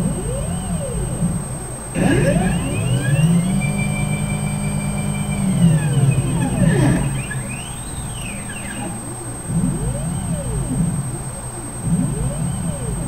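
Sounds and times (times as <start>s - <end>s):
stepper motor whine: 0.0s - 13.0s.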